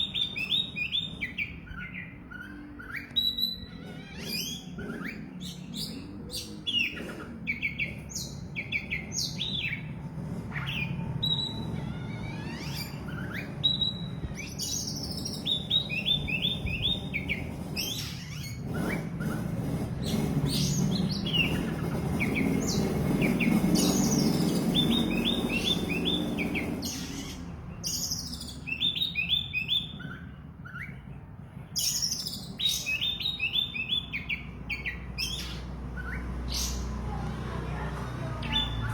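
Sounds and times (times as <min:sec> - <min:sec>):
bird singing: 0:00.0 - 0:37.1, 0:38.3 - 0:38.9
low background rumble: 0:00.0 - 0:38.9.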